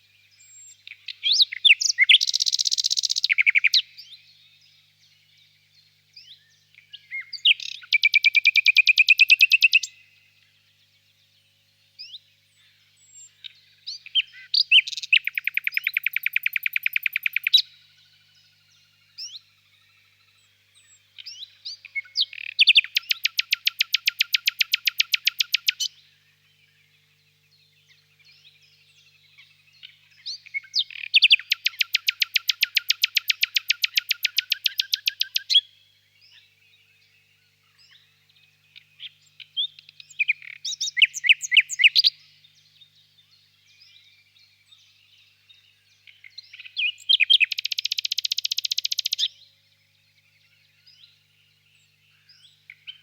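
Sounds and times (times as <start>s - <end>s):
faint bird chirps: 0.0s - 53.0s
nightingale singing: 0.0s - 53.0s.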